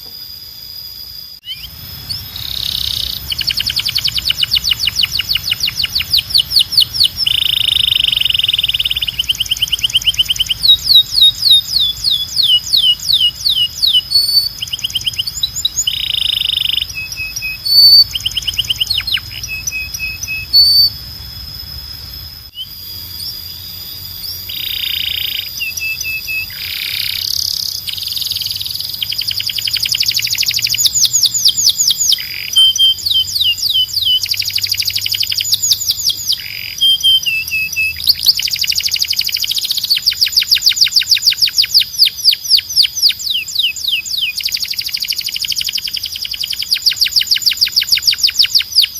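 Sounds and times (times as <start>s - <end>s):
canary singing: 1.4s - 48.9s.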